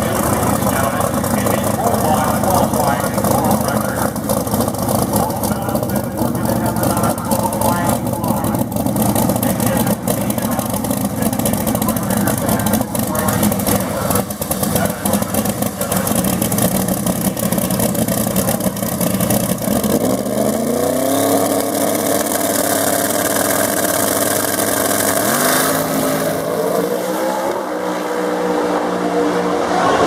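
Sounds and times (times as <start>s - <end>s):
drag car engine at full power: 0.0s - 30.0s.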